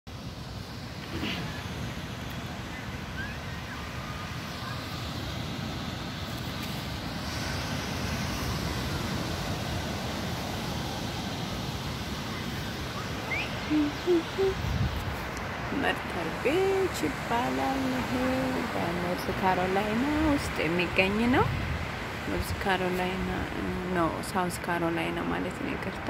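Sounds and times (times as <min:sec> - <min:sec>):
ocean surf: 0:00.1 - 0:26.0
wind rumbling on microphone: 0:00.1 - 0:26.0.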